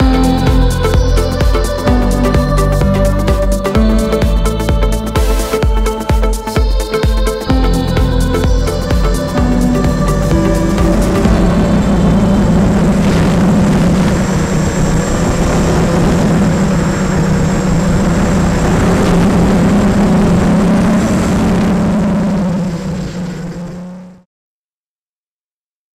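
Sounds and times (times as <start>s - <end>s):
quadcopter propellers humming: 0.0s - 24.2s.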